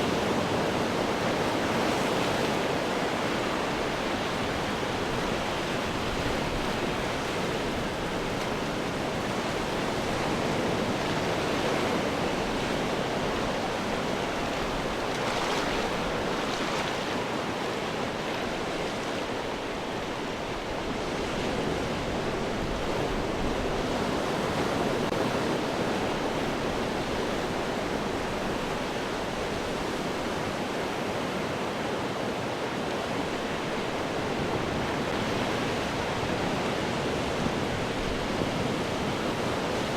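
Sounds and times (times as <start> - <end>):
ocean surf breaking on rocks: 0.0 - 39.9.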